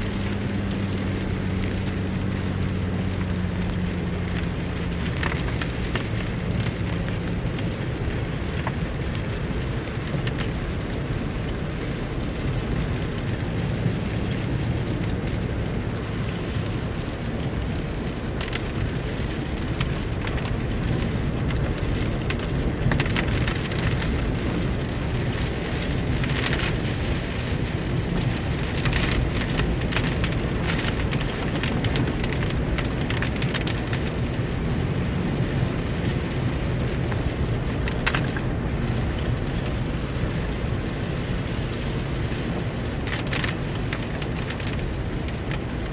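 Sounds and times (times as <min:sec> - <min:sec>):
steady rain: 0:00.0 - 0:45.9
vehicle driving hum: 0:00.0 - 0:45.9.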